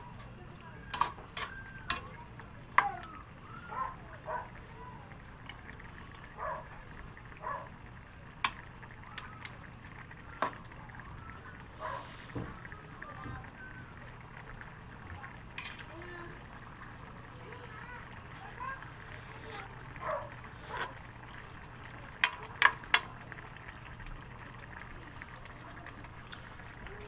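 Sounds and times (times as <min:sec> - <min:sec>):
sauce simmering and bubbling: 0:00.0 - 0:27.0.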